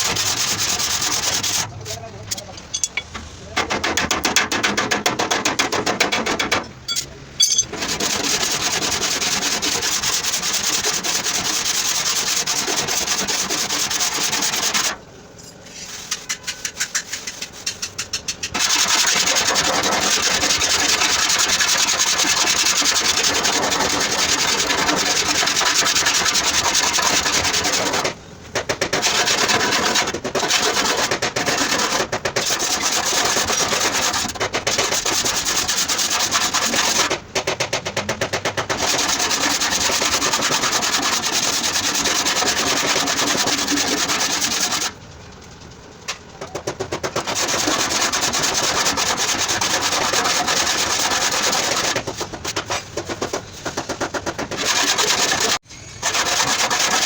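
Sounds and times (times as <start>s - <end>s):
sandpaper rubbing on metal: 0.0s - 2.1s, 7.4s - 15.0s, 15.6s - 28.2s, 28.9s - 37.2s, 38.7s - 45.0s, 46.9s - 57.0s.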